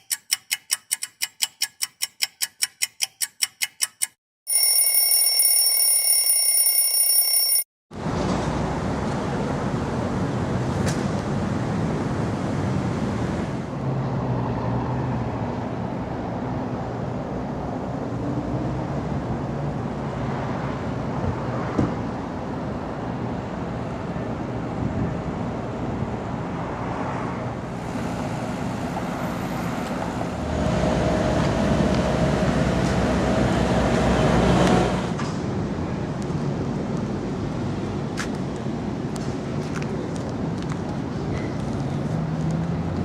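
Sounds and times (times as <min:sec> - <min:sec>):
city street traffic: 0:03.6 - 0:43.0.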